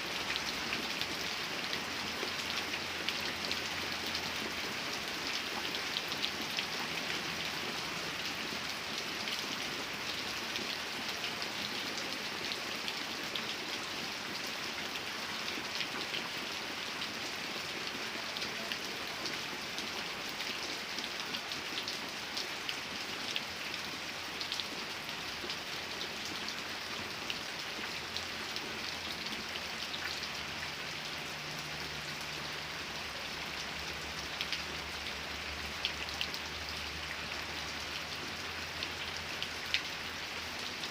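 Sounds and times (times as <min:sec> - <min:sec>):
raindrops ticking on a surface: 0:00.0 - 0:40.9
steady rainfall: 0:00.0 - 0:40.9.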